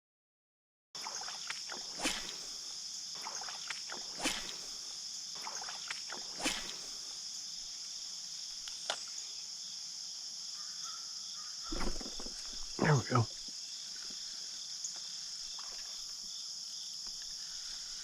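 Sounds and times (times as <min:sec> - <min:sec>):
insects chirring: 0:01.0 - 0:18.0.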